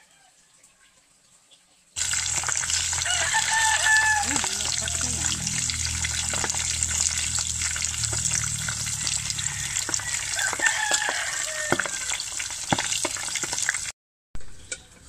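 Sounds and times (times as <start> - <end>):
meat deep-frying in oil: 0.1 - 15.0.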